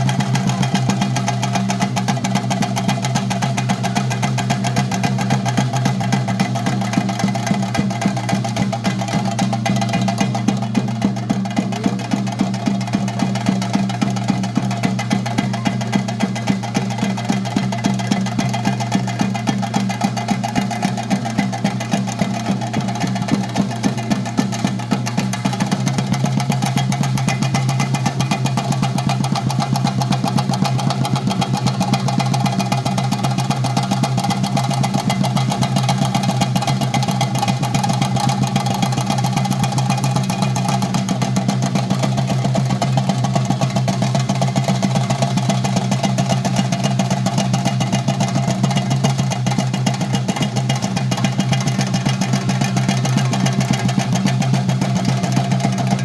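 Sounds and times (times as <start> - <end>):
drums in a fast roll: 0.0 - 56.0.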